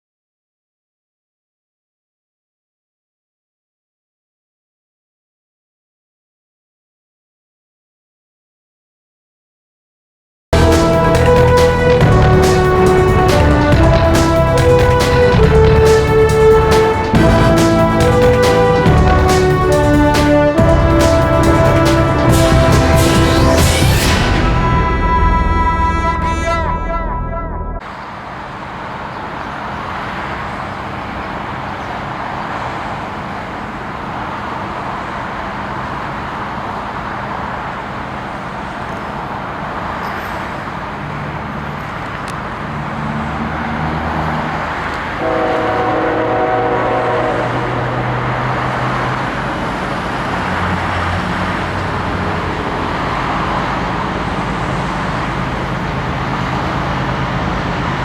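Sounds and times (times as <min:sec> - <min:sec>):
diesel locomotive engine rumble: 0:10.6 - 0:58.0
locomotive air horn chord: 0:10.6 - 0:58.0.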